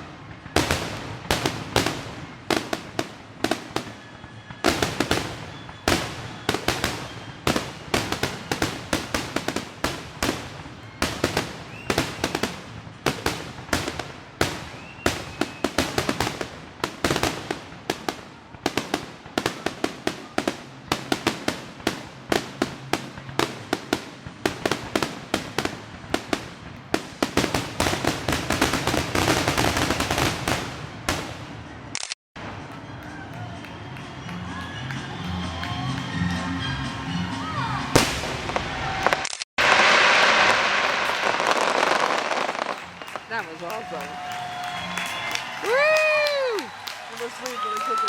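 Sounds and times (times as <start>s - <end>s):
fireworks banging and crackling: 0.0s - 48.0s.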